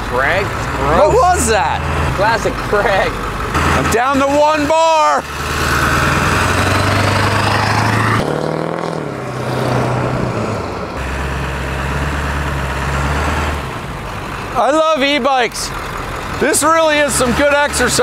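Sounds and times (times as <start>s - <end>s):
road noise: 0.0s - 18.0s
van engine humming: 0.0s - 18.0s.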